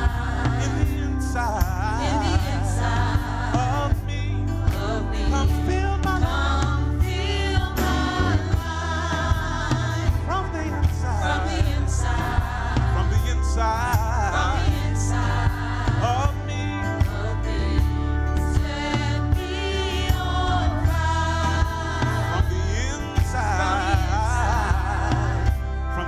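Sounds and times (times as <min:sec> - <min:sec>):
band with bass and drums: 0:00.0 - 0:26.0
choir singing: 0:00.0 - 0:26.0.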